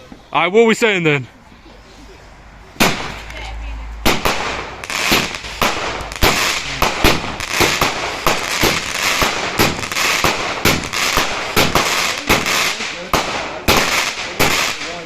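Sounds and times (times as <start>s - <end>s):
fireworks crackling: 2.8s - 15.0s
fireworks sharp bangs: 2.8s - 15.0s.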